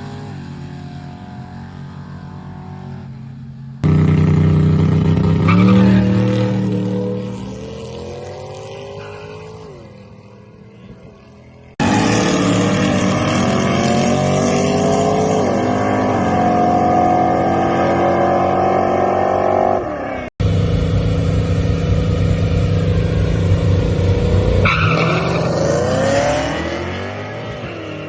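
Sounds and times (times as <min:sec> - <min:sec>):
drag race cars accelerating: 0:00.0 - 0:28.0.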